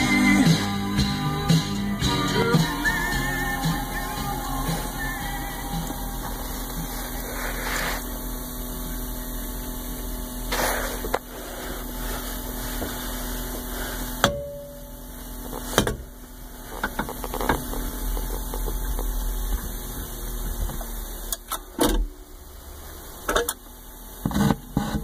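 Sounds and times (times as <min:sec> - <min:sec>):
record player motor whir: 0:00.0 - 0:25.0.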